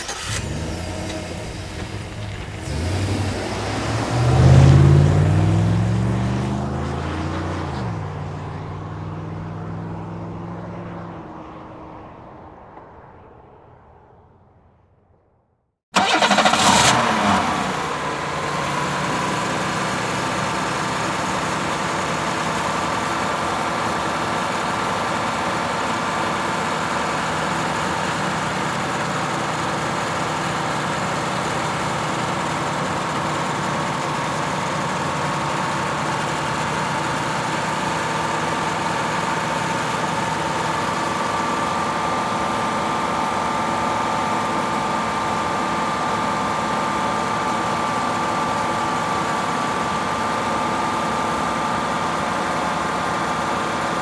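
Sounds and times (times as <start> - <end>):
vehicle engine idling: 0.0 - 13.1, 16.0 - 54.0.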